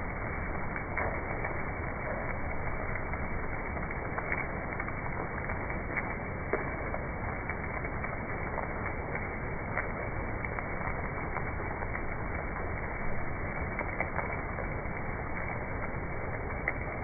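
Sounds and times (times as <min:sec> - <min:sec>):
crackling clicks: 0:00.4 - 0:17.0.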